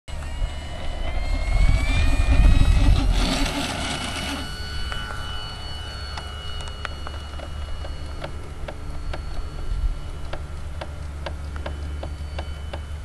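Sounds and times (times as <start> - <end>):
low rumble: 0.1 - 13.0
model airplane motor whine: 0.1 - 13.0.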